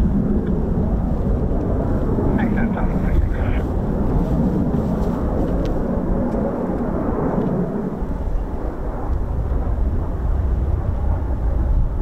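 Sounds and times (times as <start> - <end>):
jet roar flying past: 0.0 - 12.0.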